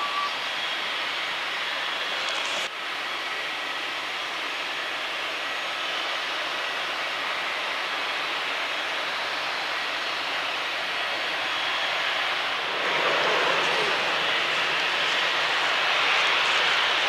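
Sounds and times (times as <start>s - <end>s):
jet engines hissing: 0.0s - 17.0s.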